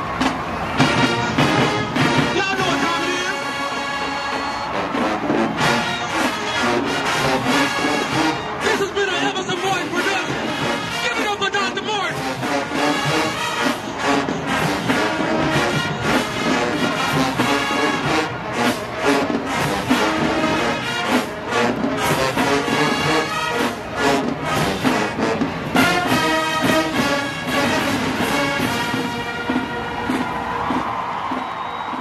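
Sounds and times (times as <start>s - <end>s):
brass section melody: 0.0s - 31.9s
drumline beat: 0.0s - 32.0s.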